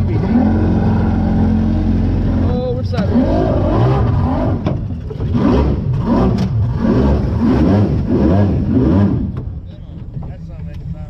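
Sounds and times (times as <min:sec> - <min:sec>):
boat engine revving: 0:00.0 - 0:10.5.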